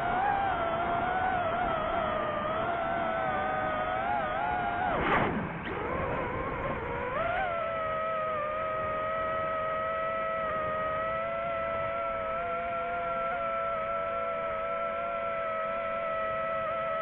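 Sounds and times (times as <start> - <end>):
drone motors and propellers whining: 0.0 - 17.0.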